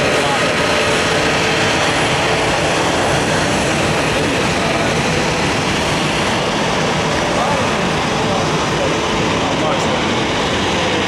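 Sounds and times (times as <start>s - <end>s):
jet airliner engines rushing: 0.0s - 11.0s.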